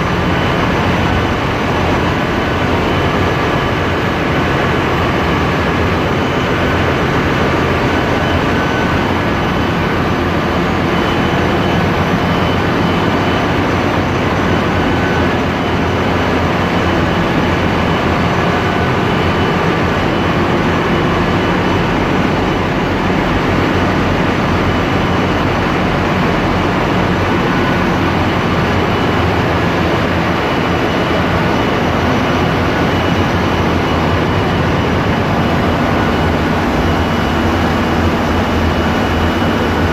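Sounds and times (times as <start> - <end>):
diesel engines running: 0.0 - 39.9
faint steady whines: 0.0 - 39.9.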